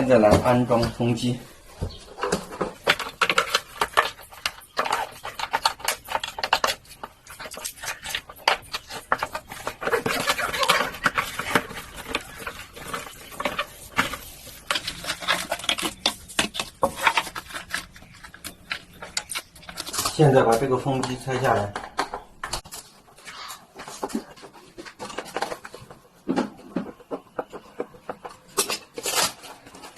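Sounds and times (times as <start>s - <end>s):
clicks and knocks of parts handled: 1.9s - 29.9s.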